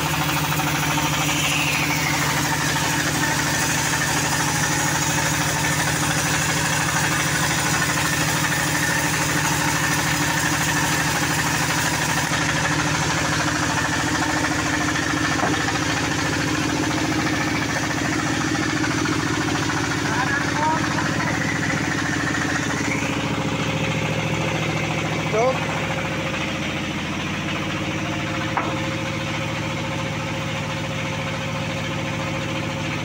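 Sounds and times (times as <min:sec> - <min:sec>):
band saw cutting log: 0:00.0 - 0:33.0.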